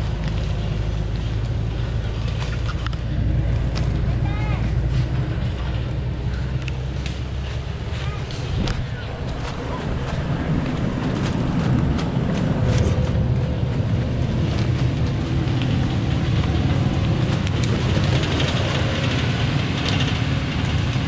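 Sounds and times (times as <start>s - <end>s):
clicks and crackles: 0.0s - 4.1s, 8.2s - 21.0s
diesel truck engine droning: 0.0s - 21.0s.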